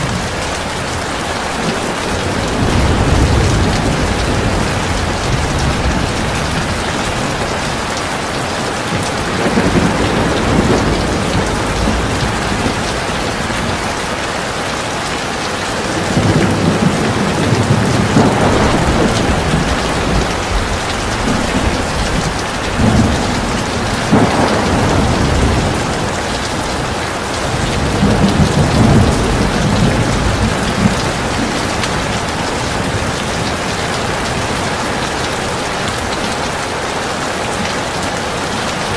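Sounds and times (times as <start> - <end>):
heavy rain falling: 0.0 - 38.9
thunder rumbling: 0.0 - 38.9.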